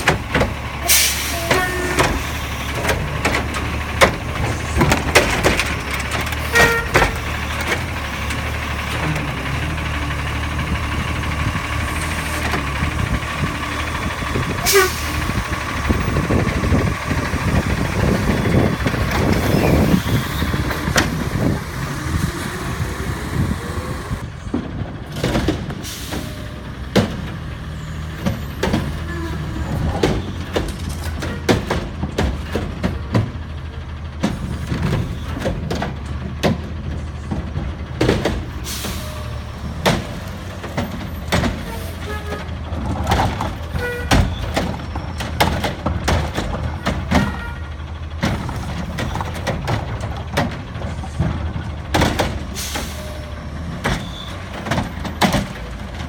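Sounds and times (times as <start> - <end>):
garbage truck engine running: 0.0 - 56.0.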